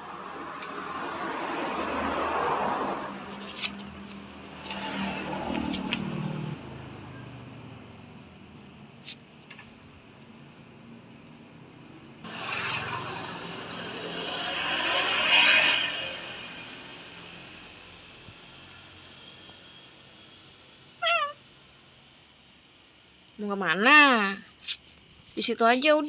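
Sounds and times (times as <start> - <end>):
road traffic passing: 0.0 - 22.4.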